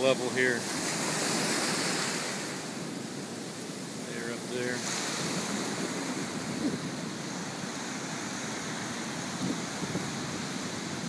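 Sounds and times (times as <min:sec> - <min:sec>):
ocean surf on sandy beach: 0:00.0 - 0:11.0.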